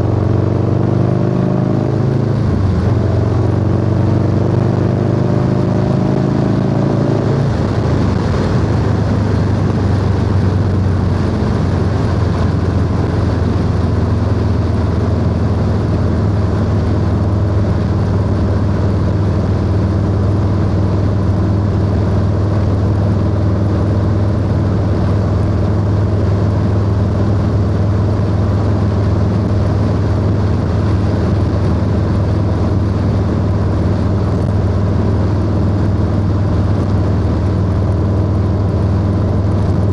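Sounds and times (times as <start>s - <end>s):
motorcycle engine revving: 0.0s - 39.9s
wind rush: 2.0s - 39.9s.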